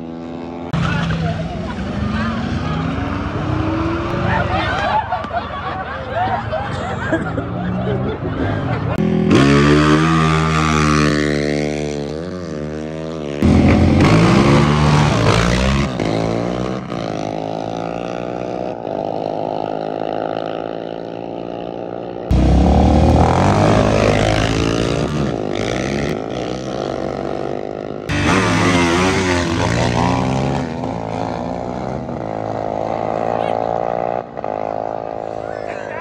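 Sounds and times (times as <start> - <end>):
dirt bike engines revving: 0.0 - 36.0.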